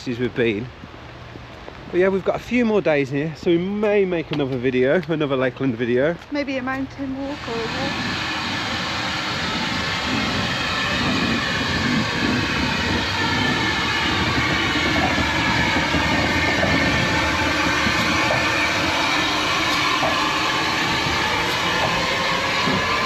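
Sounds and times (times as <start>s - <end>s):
train carriage rumble and rattle: 0.0s - 23.0s.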